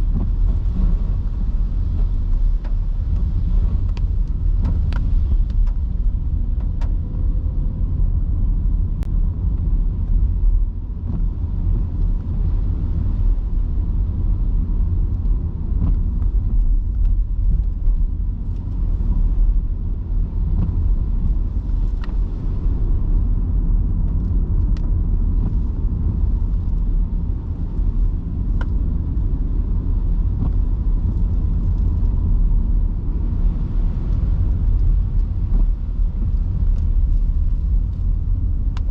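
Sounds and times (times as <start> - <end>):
tyre and road noise: 0.0 - 38.9.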